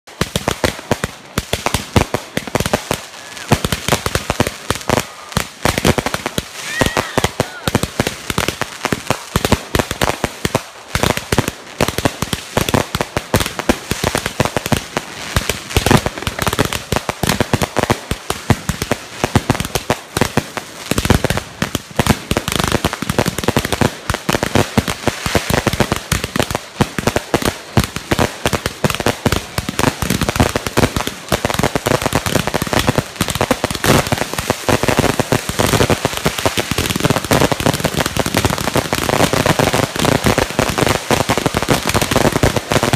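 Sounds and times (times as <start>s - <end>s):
fireworks popping and crackling: 0.0s - 42.9s.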